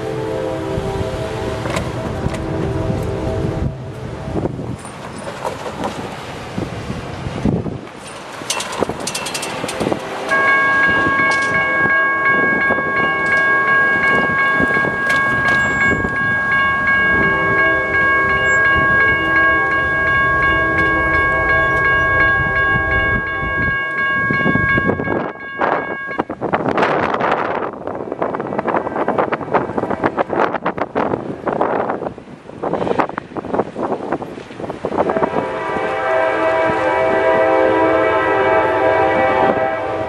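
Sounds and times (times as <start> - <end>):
crossing warning bell ringing: 0.0 - 5.3, 8.0 - 31.8, 34.9 - 40.0.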